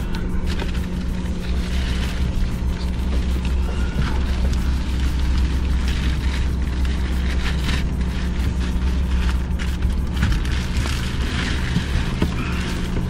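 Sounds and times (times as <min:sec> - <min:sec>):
low mechanical hum: 0:00.0 - 0:13.0
rustling of cardboard and plastic: 0:00.0 - 0:13.0.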